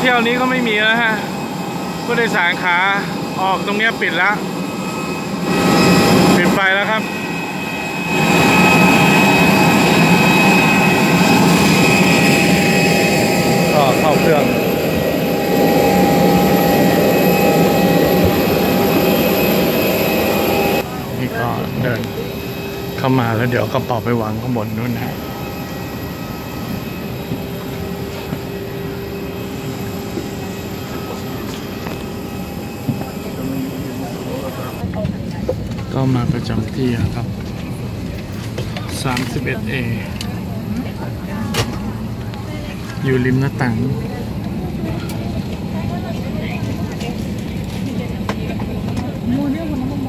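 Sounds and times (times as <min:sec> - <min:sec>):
jet airliner whine and rumble: 0:00.0 - 0:50.0.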